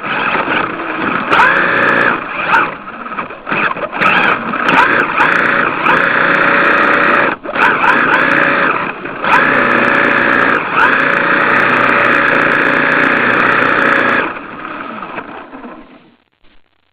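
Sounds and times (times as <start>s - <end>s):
rc car motor revving: 0.0s - 15.9s.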